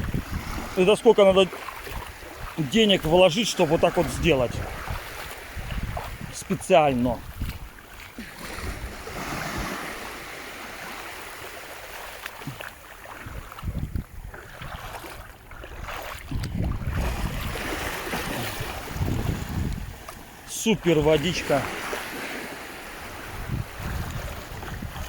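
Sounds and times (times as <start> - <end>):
wind on microphone: 0.0 - 3.2, 3.8 - 11.0, 12.4 - 20.4, 21.0 - 25.0
sea water lapping and splashing: 0.0 - 25.0.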